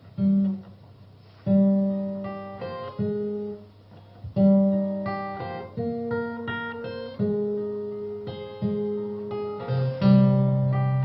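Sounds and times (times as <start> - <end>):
acoustic guitar chords strummed: 1.4 - 11.0.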